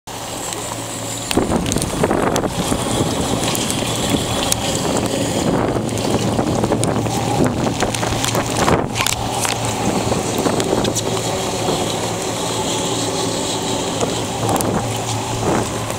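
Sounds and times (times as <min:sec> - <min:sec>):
outboard motor idling: 0:00.1 - 0:15.9
wind buffeting microphone: 0:00.2 - 0:15.9.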